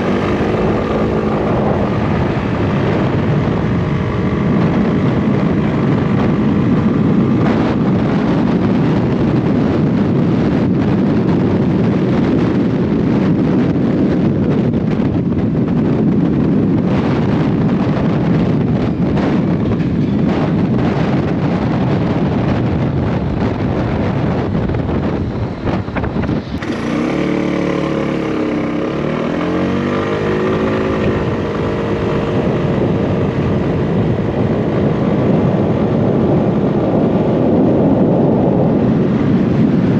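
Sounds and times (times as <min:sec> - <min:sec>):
motorcycle engine revving: 0:00.0 - 0:22.0, 0:23.8 - 0:39.9
wind buffeting microphone: 0:00.0 - 0:39.9.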